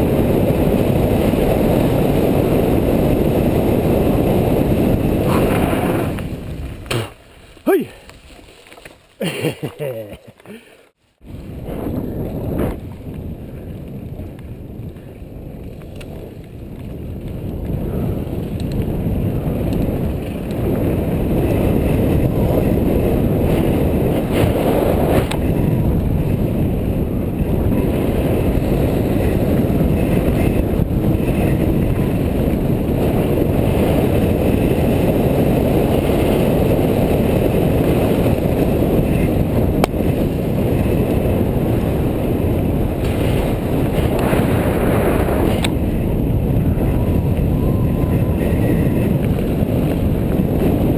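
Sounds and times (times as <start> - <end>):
wind on microphone: 0.0 - 7.9, 11.2 - 50.9
bike tyres on dirt: 0.0 - 50.9.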